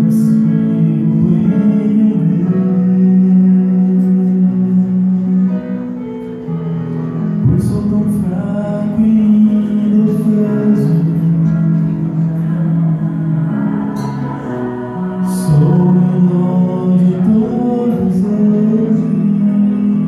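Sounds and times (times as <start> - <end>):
man singing into microphone: 0.0 - 5.9, 7.2 - 20.0.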